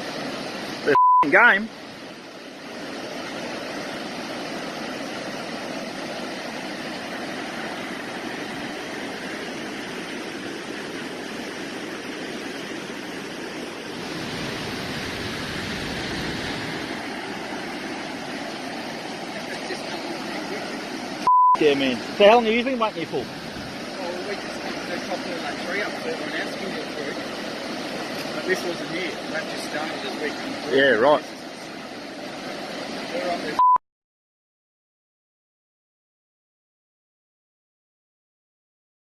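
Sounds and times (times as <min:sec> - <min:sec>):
floodwater rushing: 0:00.0 - 0:33.6.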